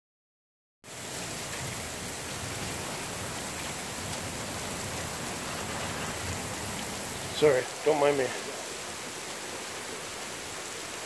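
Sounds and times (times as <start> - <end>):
hail and rain on pavement: 0.9 - 11.0.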